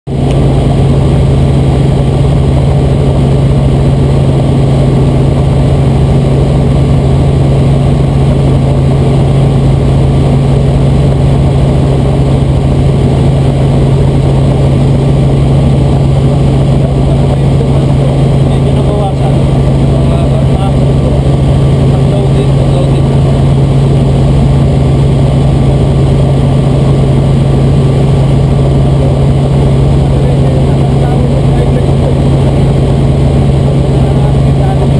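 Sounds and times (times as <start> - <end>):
helicopter engine and rotors drone: 0.1 - 34.9.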